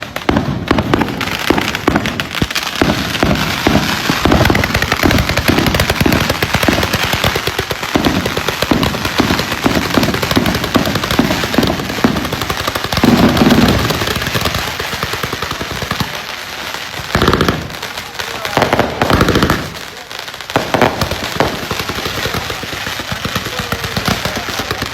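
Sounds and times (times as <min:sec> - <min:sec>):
fireworks crackling and popping: 0:00.0 - 0:24.9.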